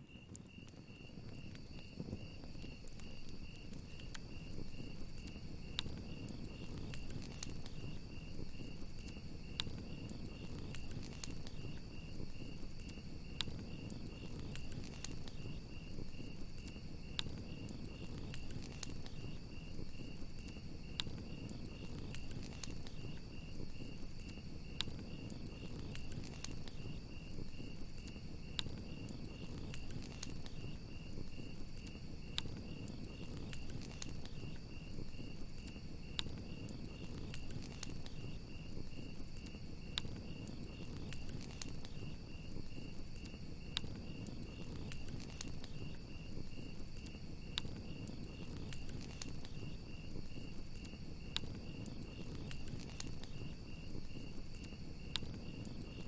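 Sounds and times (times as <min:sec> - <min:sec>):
campfire crackling: 0:00.0 - 0:56.0
crickets chirping: 0:00.0 - 0:56.0
low rumble of flames: 0:00.0 - 0:56.0
sharp pops from fire: 0:00.1 - 0:56.0.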